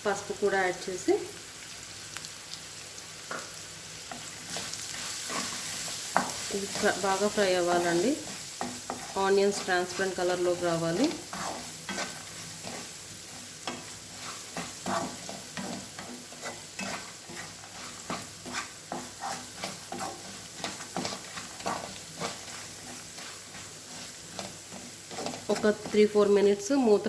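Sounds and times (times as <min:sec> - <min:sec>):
onions sizzling in oil: 0:00.0 - 0:27.0
spatula scraping pan: 0:04.1 - 0:26.2.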